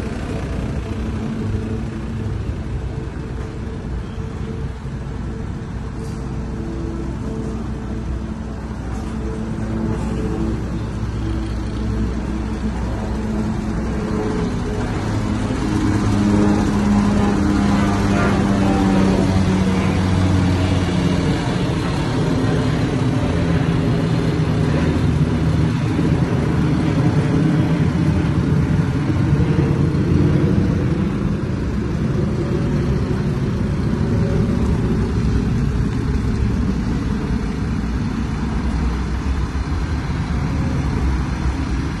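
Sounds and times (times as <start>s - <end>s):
truck diesel engine running: 0.0s - 42.0s.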